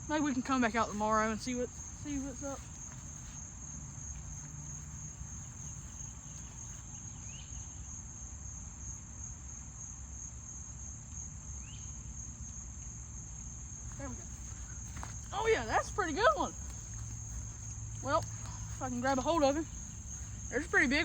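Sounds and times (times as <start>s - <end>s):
crickets chorus: 0.0s - 21.0s.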